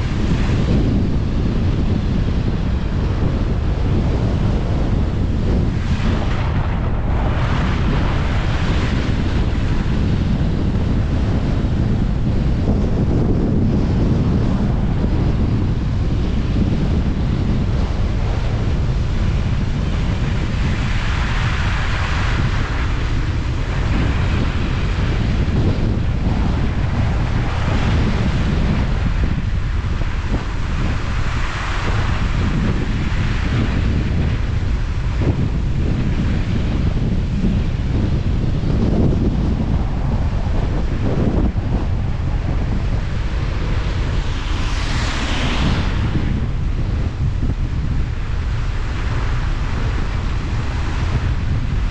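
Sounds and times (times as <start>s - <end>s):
wind noise on microphone: 0.0s - 51.9s.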